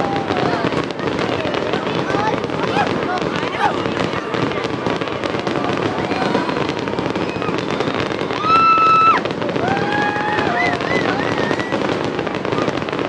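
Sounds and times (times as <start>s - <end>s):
firework whistling: 0.0s - 13.0s
fireworks crackling: 0.0s - 13.0s.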